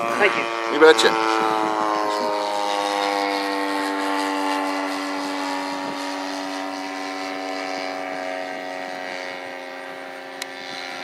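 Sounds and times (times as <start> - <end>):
model airplane motor droning: 0.0 - 11.0.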